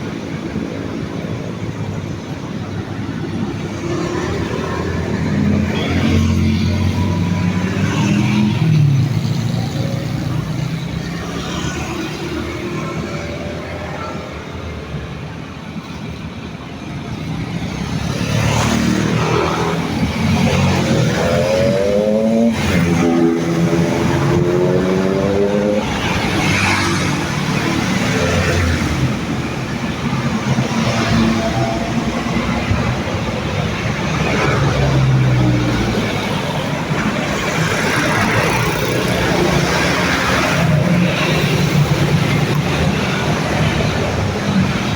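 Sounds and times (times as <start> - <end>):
bus engine drone: 0.0 - 18.2, 19.0 - 44.9
road traffic: 0.0 - 44.9.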